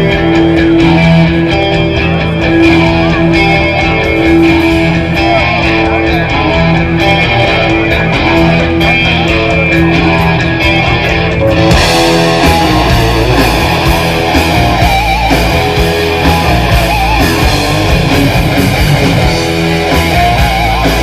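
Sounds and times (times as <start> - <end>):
bass guitar: 0.0 - 21.0
electric guitar: 0.0 - 21.0
live rock band playing: 0.0 - 21.0
steady drum beat: 0.0 - 21.0.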